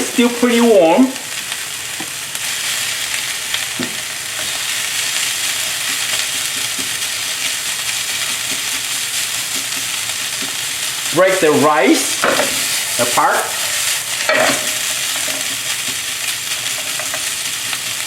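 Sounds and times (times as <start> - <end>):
rice sizzling in a frying pan: 0.0 - 18.0.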